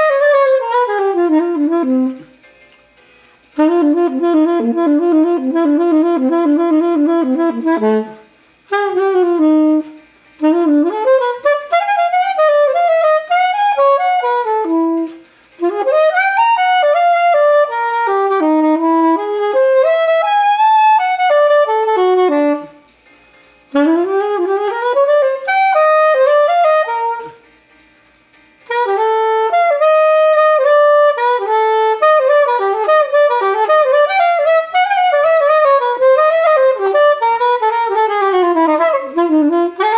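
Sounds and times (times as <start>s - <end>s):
soprano saxophone melody: 0.0s - 2.4s, 3.6s - 22.9s, 23.7s - 27.5s, 28.6s - 39.9s.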